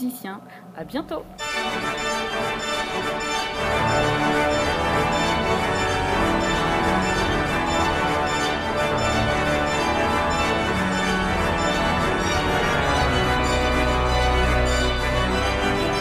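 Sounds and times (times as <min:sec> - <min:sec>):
pipe organ chords: 0:01.2 - 0:16.0.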